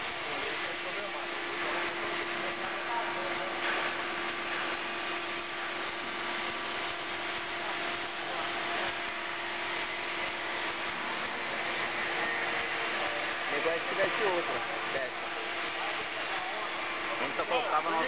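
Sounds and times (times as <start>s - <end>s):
plate rolling machine humming: 0.0s - 18.0s.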